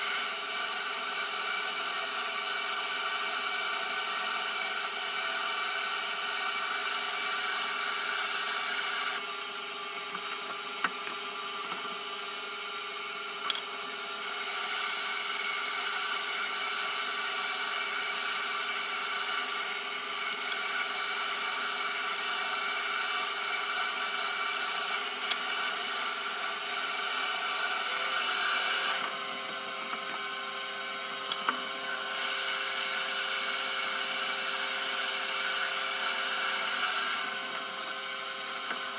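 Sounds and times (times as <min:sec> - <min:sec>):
metal lathe humming: 0:03.9 - 0:38.9
lathe cutting metal: 0:04.0 - 0:38.9.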